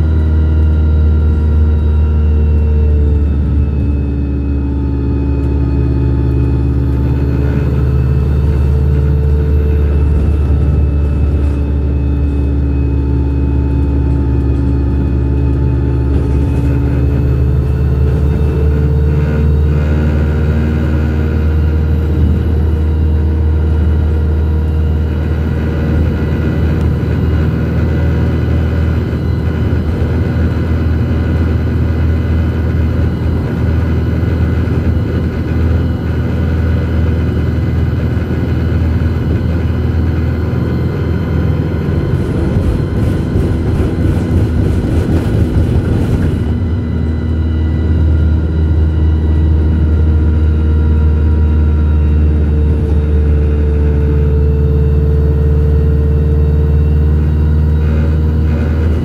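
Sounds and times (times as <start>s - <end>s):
bus engine drone: 0.0s - 59.0s
road and tyre noise: 0.0s - 59.0s.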